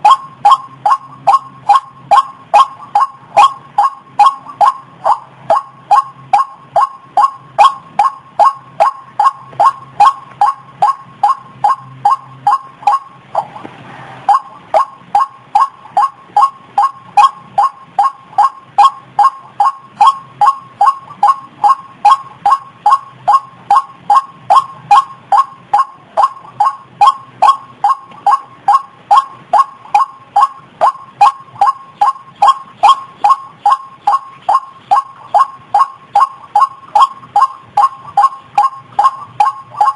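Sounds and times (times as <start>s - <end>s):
waterhen calling: 0.0s - 13.7s, 14.3s - 39.9s.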